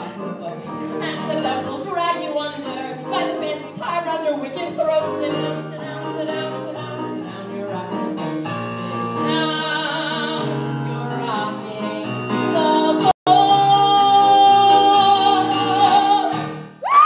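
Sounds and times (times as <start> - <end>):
woman singing into a microphone: 0.0 - 16.5
piano accompaniment: 0.0 - 16.8.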